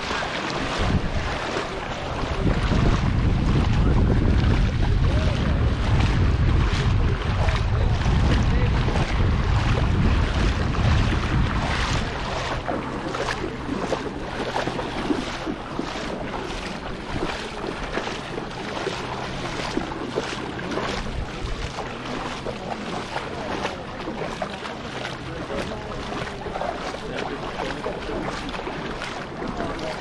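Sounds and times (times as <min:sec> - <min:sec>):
footsteps splashing through water: 0:00.0 - 0:30.0
wind buffeting microphone: 0:00.0 - 0:30.0.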